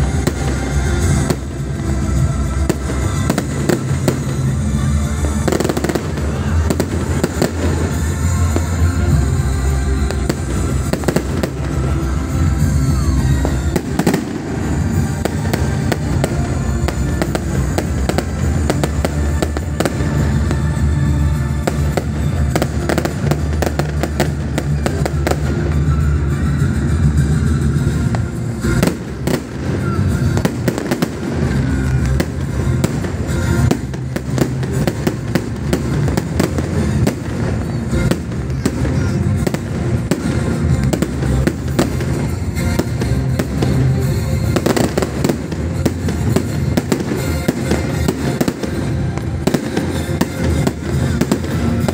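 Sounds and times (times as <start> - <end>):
fireworks bursting and crackling: 0.0 - 51.9.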